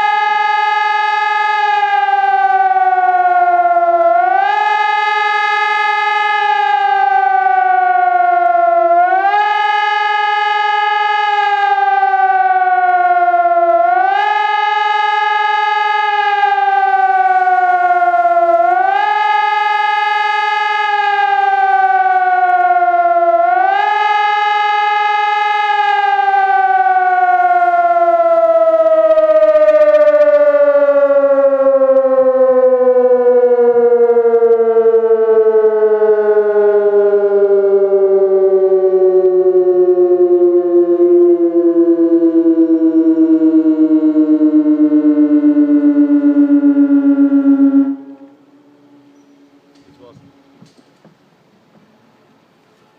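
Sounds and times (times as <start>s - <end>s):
civil defence siren wailing: 0.0s - 51.4s.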